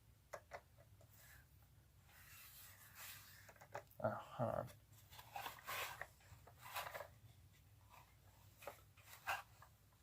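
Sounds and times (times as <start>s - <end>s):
small parts rustling and scraping: 0.3s - 4.0s, 4.8s - 10.0s.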